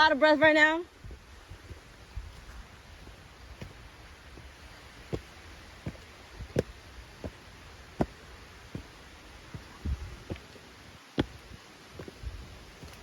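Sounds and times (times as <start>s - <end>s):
footsteps walking: 0.3s - 13.0s.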